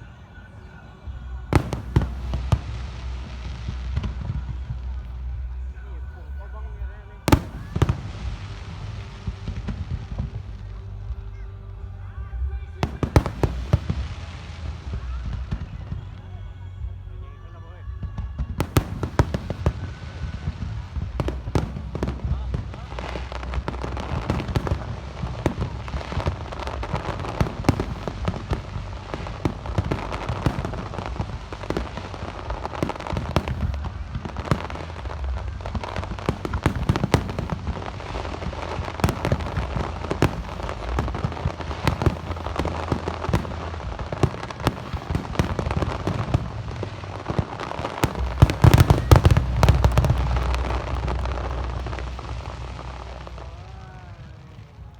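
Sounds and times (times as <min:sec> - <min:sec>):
fireworks bangs and crackles: 0:00.0 - 0:17.1, 0:18.0 - 0:54.9
low rumble: 0:00.0 - 0:54.9.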